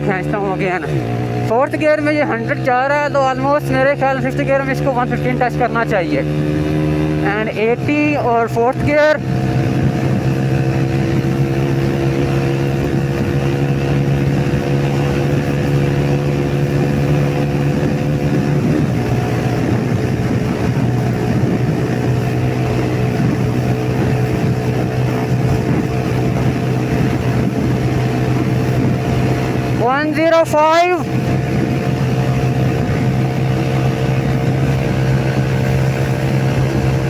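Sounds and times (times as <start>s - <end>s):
motorcycle engine running hard: 0.0s - 37.0s
wind on microphone: 6.3s - 37.0s.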